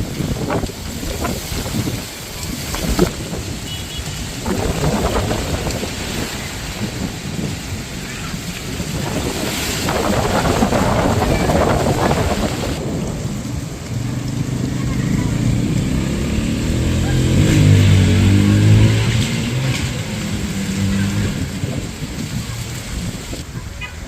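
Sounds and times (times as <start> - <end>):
low thunder rumble: 0.0 - 23.5
gusting wind: 0.0 - 24.0
heavy rain: 0.0 - 24.0.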